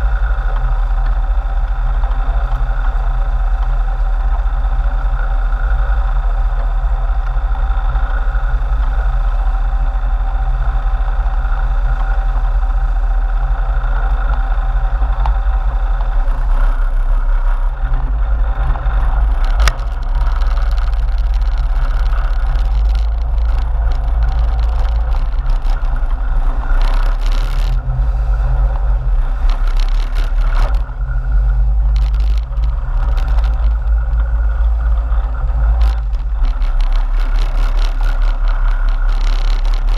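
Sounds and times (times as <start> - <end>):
boat engines running: 0.0 - 39.9.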